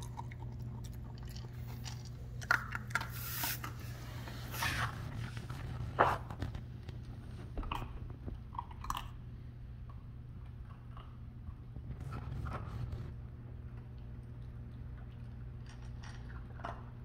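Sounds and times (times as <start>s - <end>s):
puppy crunching dry kibble: 0.0s - 17.0s.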